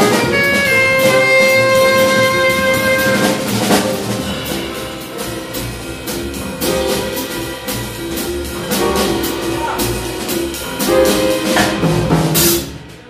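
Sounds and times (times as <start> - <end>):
drum and cymbal strokes: 0.0 - 13.0.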